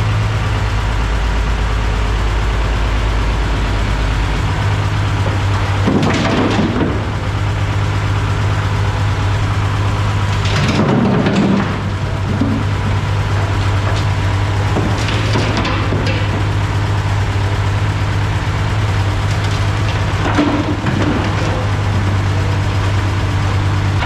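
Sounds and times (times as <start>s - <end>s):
construction machine engine humming: 0.0s - 24.0s.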